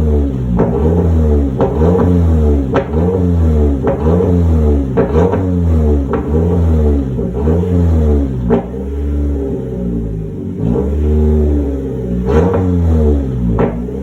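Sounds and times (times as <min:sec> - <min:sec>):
exhaust pops and crackles: 0:00.0 - 0:09.5, 0:12.1 - 0:14.0
car engine revving: 0:00.0 - 0:14.0.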